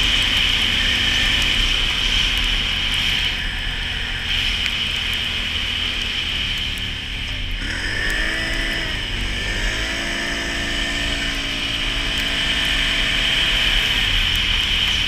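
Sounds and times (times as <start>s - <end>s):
atv engine accelerating: 0.0s - 15.0s.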